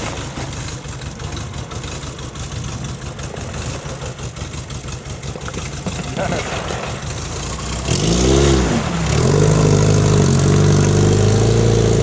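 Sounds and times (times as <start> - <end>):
off-road vehicle engine idling: 0.0 - 12.0.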